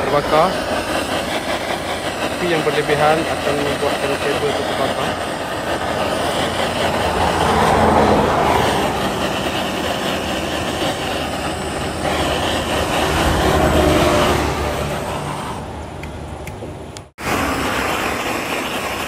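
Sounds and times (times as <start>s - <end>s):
blowtorch flame hissing: 0.0s - 19.0s.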